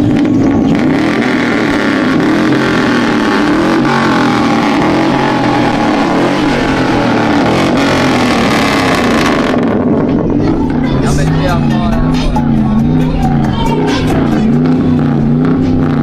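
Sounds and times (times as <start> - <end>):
dense rushing noise: 0.0 - 16.0
vehicle engine revving hard: 0.0 - 16.0.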